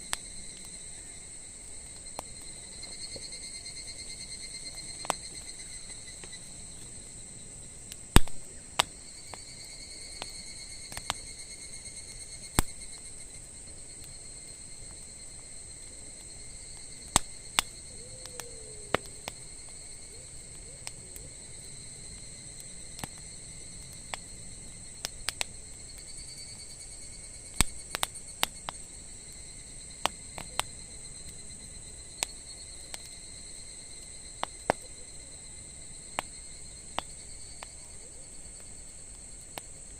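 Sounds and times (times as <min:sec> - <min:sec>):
insects trilling: 0:00.0 - 0:39.9
wood fire crackling and popping: 0:00.0 - 0:39.9.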